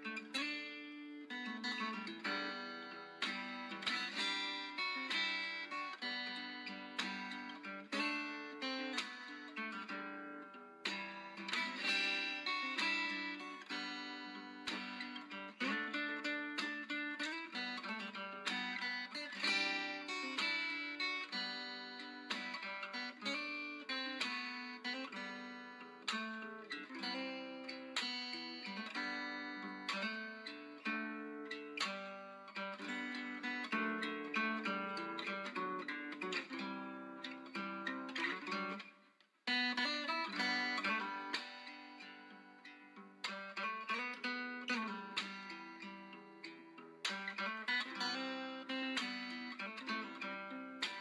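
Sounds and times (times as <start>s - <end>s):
acoustic guitar plucked notes: 0.0s - 51.0s.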